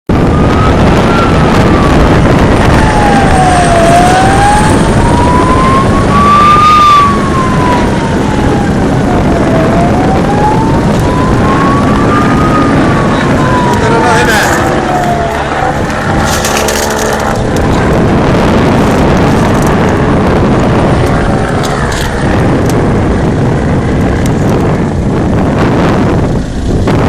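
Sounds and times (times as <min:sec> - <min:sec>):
emergency siren wailing: 0:00.1 - 0:27.0
loud steady rumbling noise: 0:00.1 - 0:27.0.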